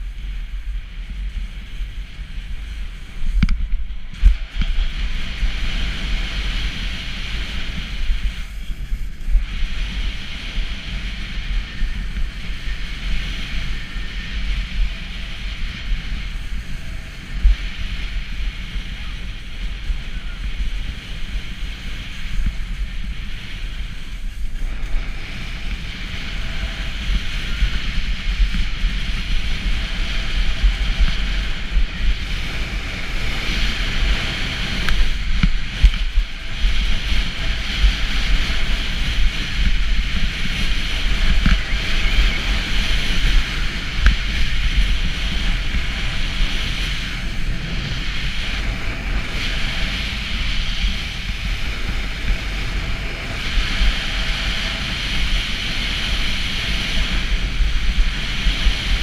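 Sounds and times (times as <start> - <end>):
skis hissing on packed snow: 0.0 - 3.4, 4.0 - 59.0
wind buffeting microphone: 0.0 - 59.0.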